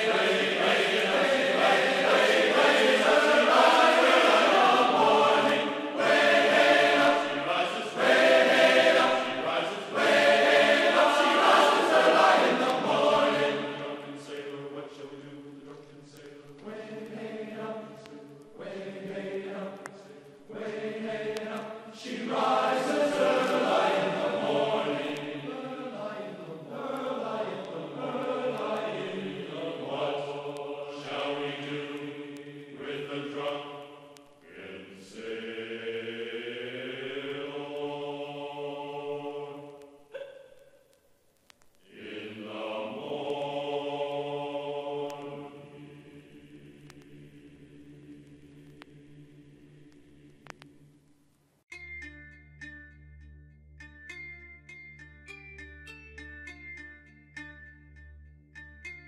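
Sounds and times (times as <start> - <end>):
choir-like chanting voices: 0.0 - 40.6, 41.8 - 50.8.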